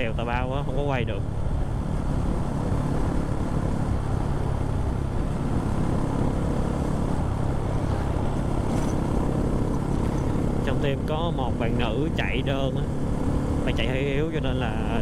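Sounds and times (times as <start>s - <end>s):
wind rumble on microphone: 0.0s - 15.0s
motorcycle engine running: 1.2s - 15.0s.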